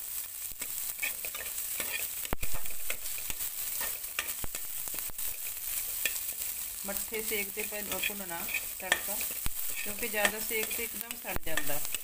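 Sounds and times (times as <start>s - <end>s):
food sizzling in hot oil: 0.0s - 12.0s
spatula scraping pan: 0.6s - 12.0s.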